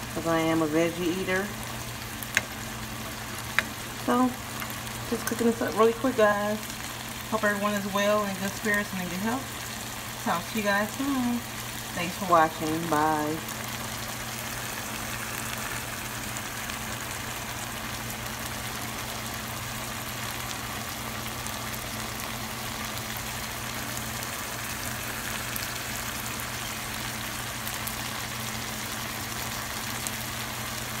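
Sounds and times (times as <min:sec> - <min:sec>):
vegetables sizzling in frying pan: 0:00.0 - 0:31.0
hot fat crackling and popping: 0:00.1 - 0:31.0.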